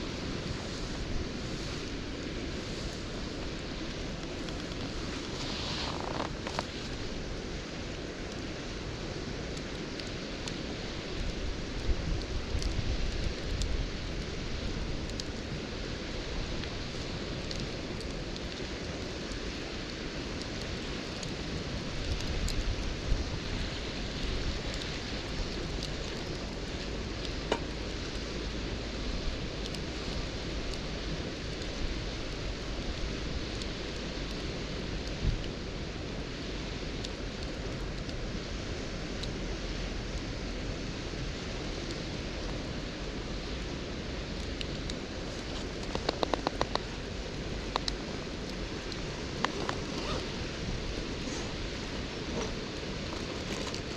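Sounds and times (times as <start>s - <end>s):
campfire hissing and crackling: 0.0s - 53.9s.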